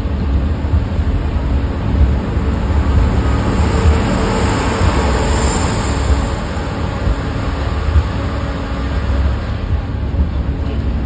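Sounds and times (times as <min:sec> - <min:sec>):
cog railway train rumbling: 0:00.0 - 0:11.0
train passing alongside: 0:00.0 - 0:11.0.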